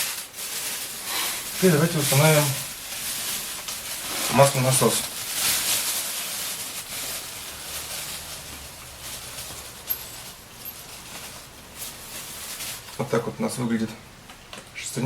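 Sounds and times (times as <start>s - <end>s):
rustling of parts being handled: 0.0s - 14.7s.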